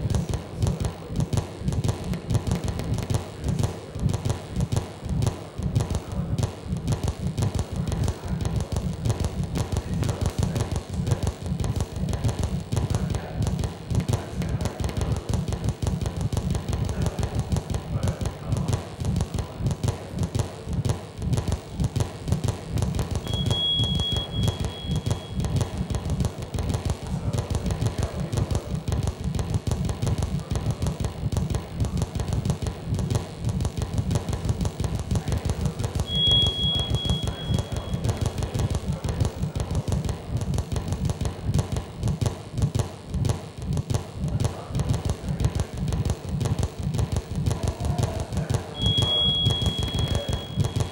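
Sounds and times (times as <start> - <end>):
flickering low electronic rumble: 0.0 - 50.9.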